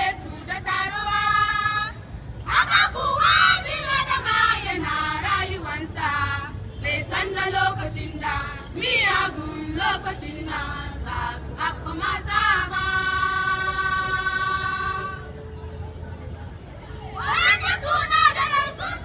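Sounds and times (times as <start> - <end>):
girls singing together: 0.0 - 15.2, 17.2 - 19.0.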